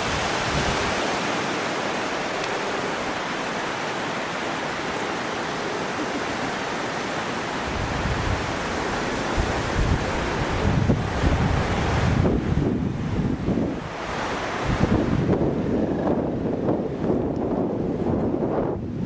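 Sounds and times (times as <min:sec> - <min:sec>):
rushing water: 0:00.0 - 0:19.0
wind buffeting microphone: 0:00.0 - 0:19.0.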